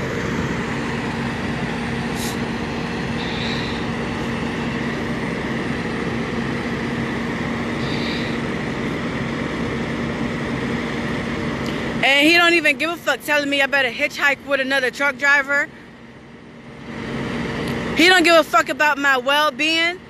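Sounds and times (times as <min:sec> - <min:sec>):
diesel truck engine drone: 0:00.0 - 0:20.0.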